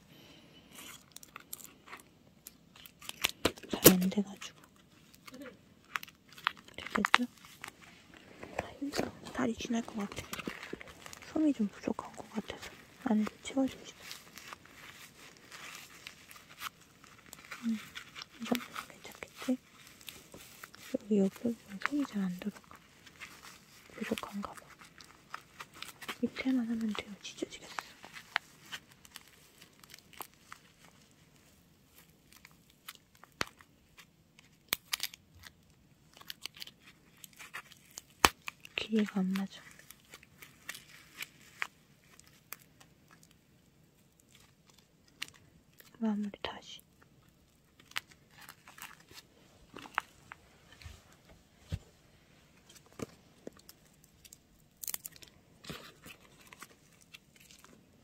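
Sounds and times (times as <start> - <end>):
paper and tape crinkling: 0.7 - 58.0.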